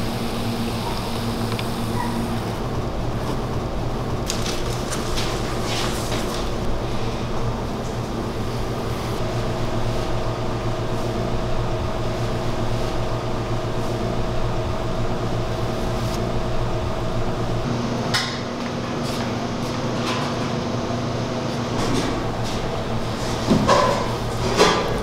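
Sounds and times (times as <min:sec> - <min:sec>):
machinery hum: 0:00.0 - 0:25.0.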